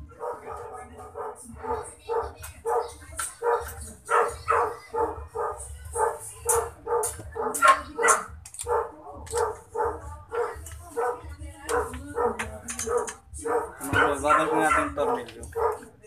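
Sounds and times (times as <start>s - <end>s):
dog barking: 0.1s - 16.0s.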